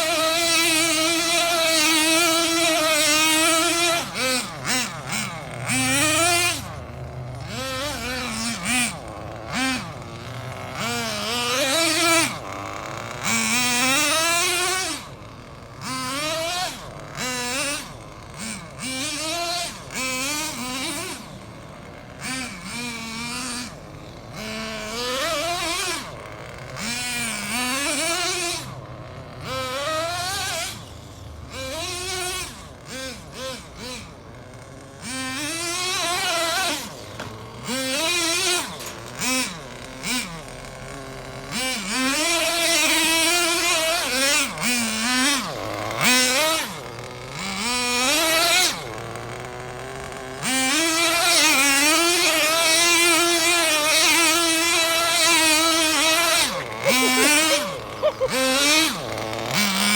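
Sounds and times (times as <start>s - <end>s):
toy car motor revving: 0.0s - 59.9s.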